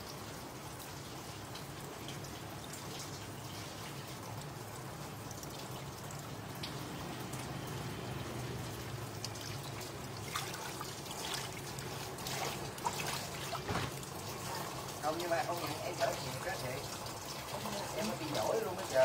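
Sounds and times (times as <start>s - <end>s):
water splashes: 0.0s - 19.0s
water trickling and dripping: 0.0s - 19.0s.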